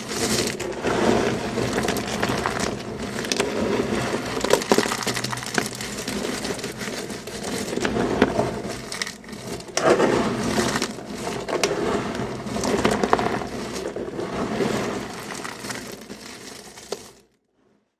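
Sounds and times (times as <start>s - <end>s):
dry material crunching: 0.0s - 17.2s.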